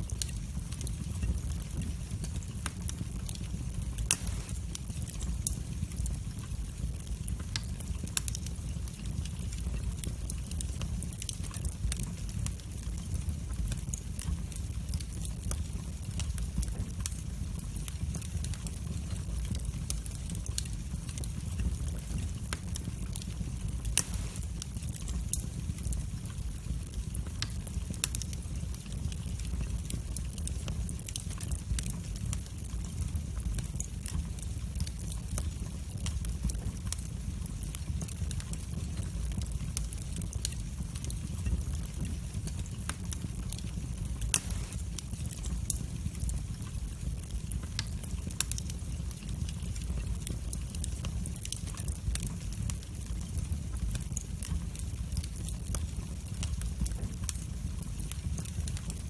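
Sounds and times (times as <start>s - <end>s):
low fire rumble: 0.0s - 59.0s
wood fire crackling and popping: 0.0s - 59.0s.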